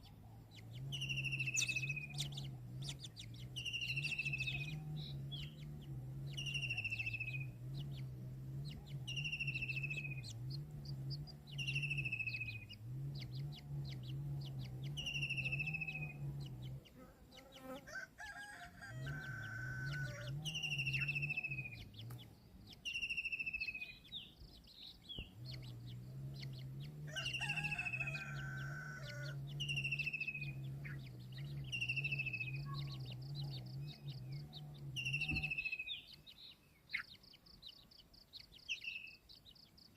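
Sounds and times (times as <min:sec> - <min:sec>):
longer lower bird call: 0:00.0 - 0:08.1, 0:08.7 - 0:16.2, 0:16.9 - 0:22.1, 0:22.7 - 0:39.9
steady low hum: 0:00.0 - 0:17.8, 0:18.7 - 0:36.3.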